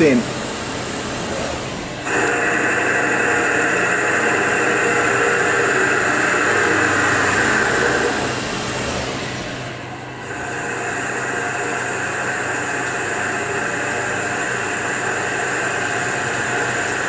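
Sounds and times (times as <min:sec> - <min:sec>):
coolant spraying hiss: 0:00.0 - 0:17.0
lathe machine hum: 0:00.0 - 0:17.0.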